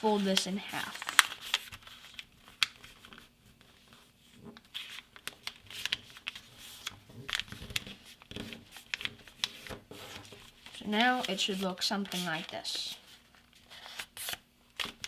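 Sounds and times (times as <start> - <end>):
paper being folded and creased: 0.0 - 15.0.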